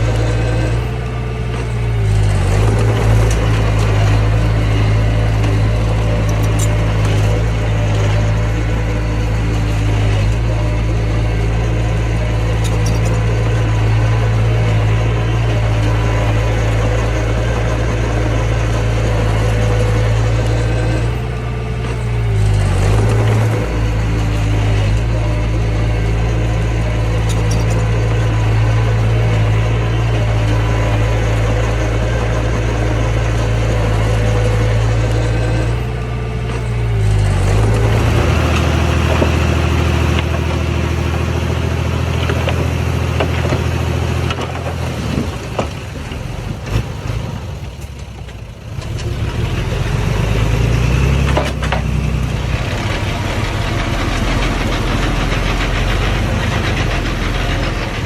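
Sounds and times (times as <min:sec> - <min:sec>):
earthmoving machine engine: 0:00.0 - 0:58.0
machinery clanks: 0:00.0 - 0:58.0.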